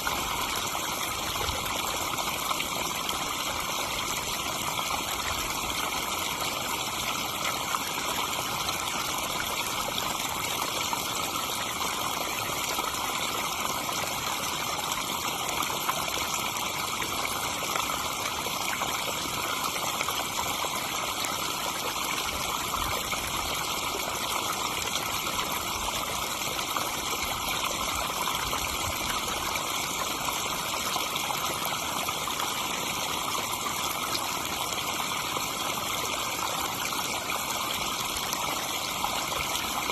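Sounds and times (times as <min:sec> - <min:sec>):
waterfall splashing into pond: 0:00.0 - 0:39.9.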